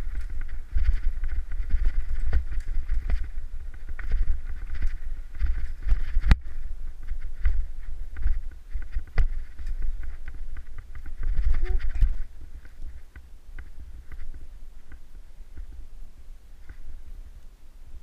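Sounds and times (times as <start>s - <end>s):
bike rattling over bumps: 0.0s - 15.9s
wind rumble on microphone: 0.0s - 18.0s.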